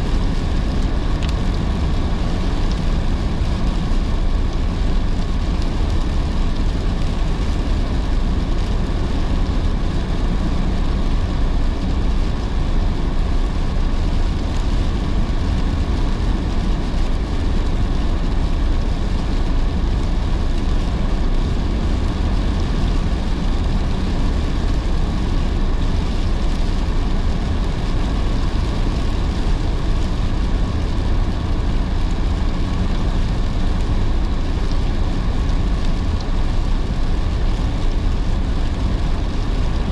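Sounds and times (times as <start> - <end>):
rain hissing on car: 0.0 - 39.9
tyres and engine rumble: 0.0 - 39.9.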